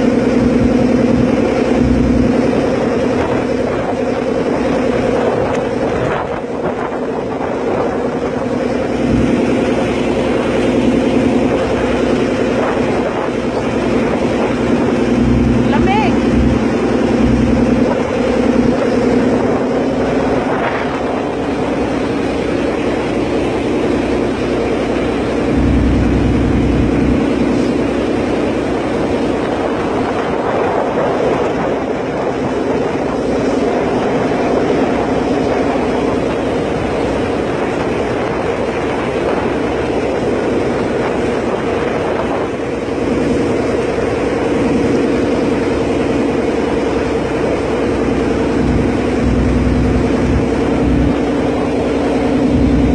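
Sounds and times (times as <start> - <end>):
ferry engine drone: 0.0 - 52.9
wind buffeting microphone: 0.0 - 52.9.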